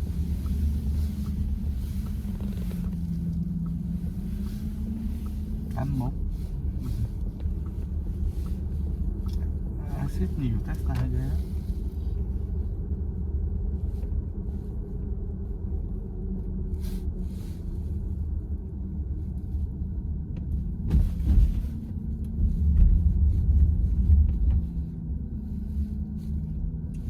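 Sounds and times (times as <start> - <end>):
road and tyre rumble in car: 0.0 - 27.0.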